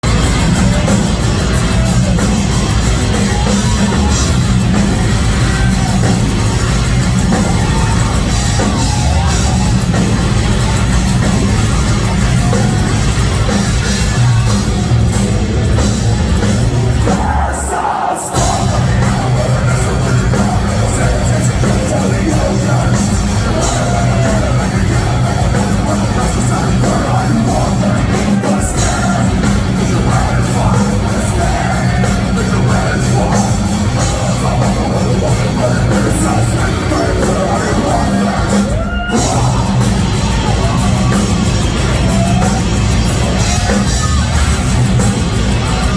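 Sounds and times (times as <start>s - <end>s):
distorted guitars: 0.0s - 45.9s
drums: 0.0s - 45.9s
vocals: 0.0s - 45.9s.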